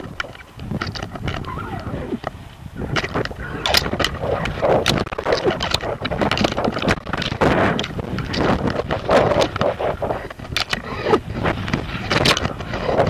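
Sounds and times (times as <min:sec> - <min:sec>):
kite rattling and flapping: 0:00.0 - 0:13.0
wind buffeting camera: 0:00.0 - 0:13.0.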